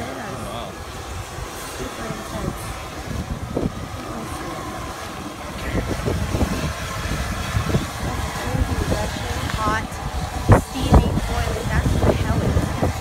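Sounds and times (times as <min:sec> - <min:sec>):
mud pot steam vent rushing: 0:00.0 - 0:13.0
wind on microphone: 0:00.0 - 0:13.0.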